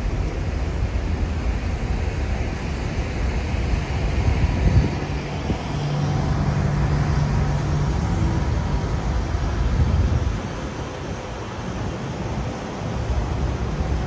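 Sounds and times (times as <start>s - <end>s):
engine drone: 0.0s - 14.0s
road traffic rumble: 0.0s - 14.0s.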